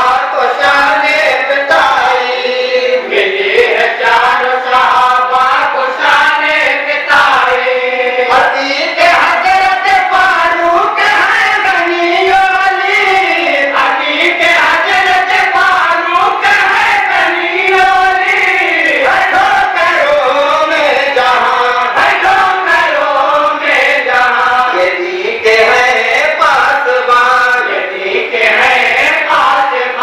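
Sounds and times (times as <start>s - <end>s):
men chanting in chorus: 0.0s - 30.0s.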